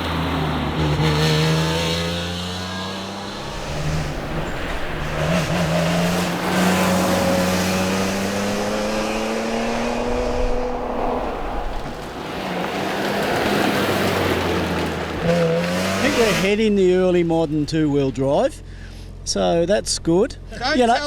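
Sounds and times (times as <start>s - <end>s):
car engine accelerating: 0.0s - 18.4s
tyre and road noise: 0.0s - 19.7s.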